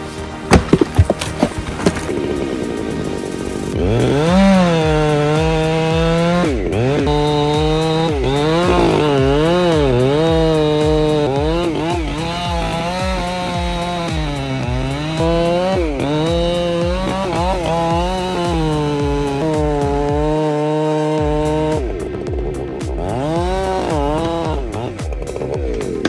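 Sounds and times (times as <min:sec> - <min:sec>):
chainsaw cutting: 0:00.0 - 0:26.0.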